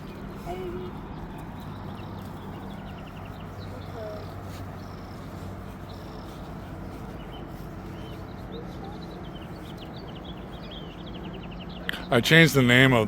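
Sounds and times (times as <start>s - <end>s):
faint bird chirps: 0.0s - 12.2s
low background noise: 0.0s - 13.0s.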